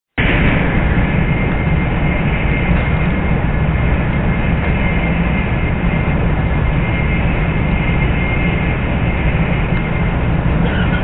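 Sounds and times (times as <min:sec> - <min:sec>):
train running noise inside cabin: 0:00.2 - 0:11.0.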